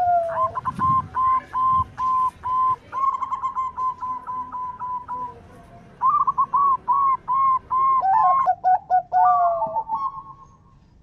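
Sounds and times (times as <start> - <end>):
dove cooing: 0.0 - 5.4, 6.0 - 10.7.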